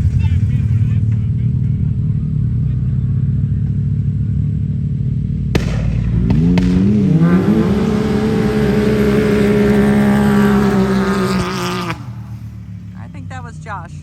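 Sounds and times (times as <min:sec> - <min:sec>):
truck engines revving: 0:00.0 - 0:14.0.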